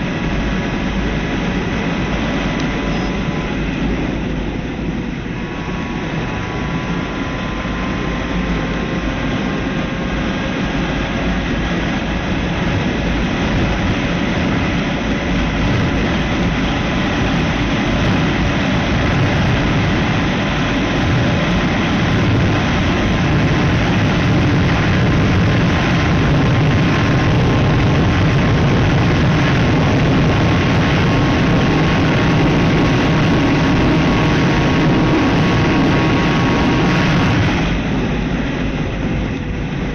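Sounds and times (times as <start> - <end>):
heavy wind rush: 0.0 - 39.9
motorcycle engine running: 0.0 - 39.9.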